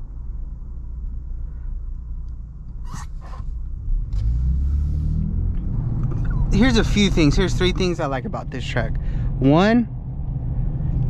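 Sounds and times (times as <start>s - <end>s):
truck cabin engine rumble: 1.9s - 11.0s.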